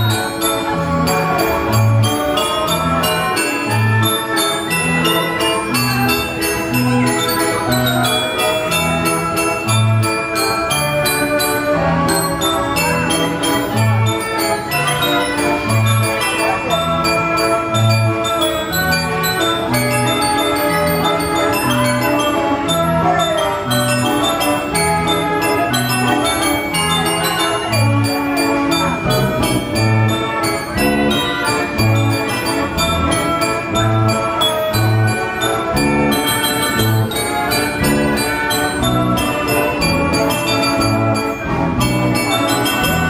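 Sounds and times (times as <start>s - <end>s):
band organ playing a tune: 0.0s - 43.0s
bell-like glockenspiel notes: 0.0s - 43.0s.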